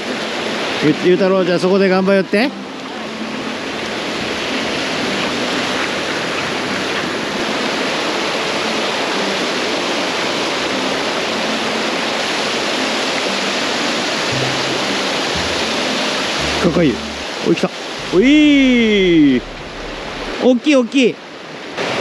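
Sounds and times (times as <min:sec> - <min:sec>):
river water rushing over weir: 0:00.0 - 0:22.0.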